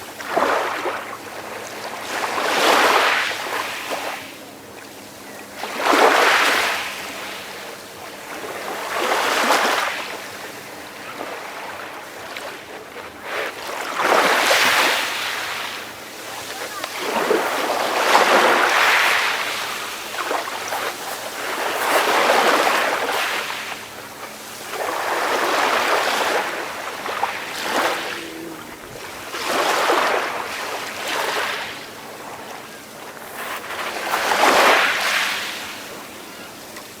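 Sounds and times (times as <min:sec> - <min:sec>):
ocean waves on shore: 0:00.0 - 0:37.0.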